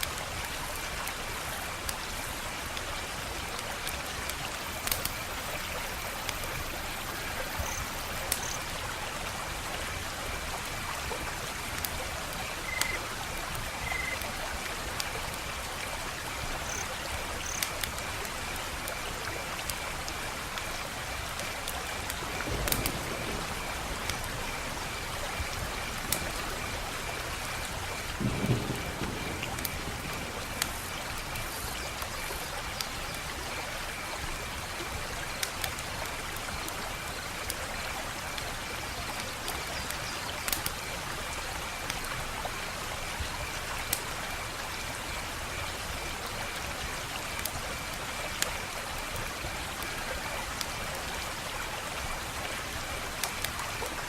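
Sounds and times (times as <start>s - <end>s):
wood fire crackling: 0.0s - 44.2s.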